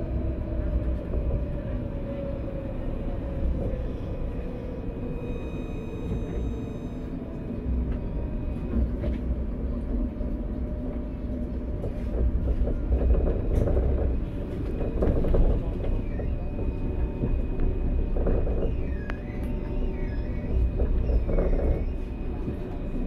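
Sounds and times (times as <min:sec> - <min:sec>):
tram wheels rumbling on rail: 0:00.0 - 0:23.0.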